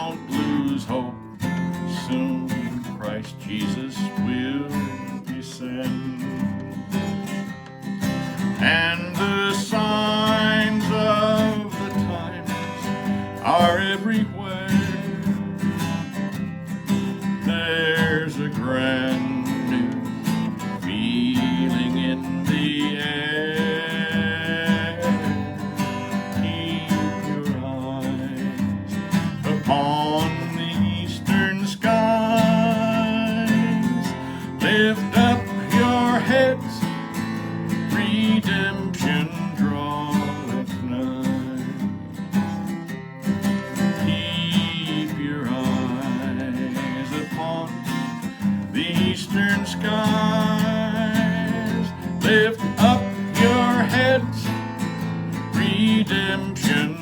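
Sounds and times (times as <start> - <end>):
acoustic guitar music: 0.0 - 57.0.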